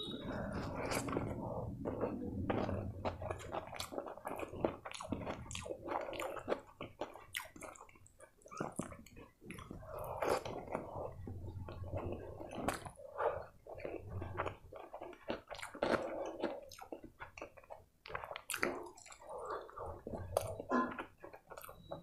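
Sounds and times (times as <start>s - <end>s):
wet chewing and lip smacks: 0.4s - 22.0s.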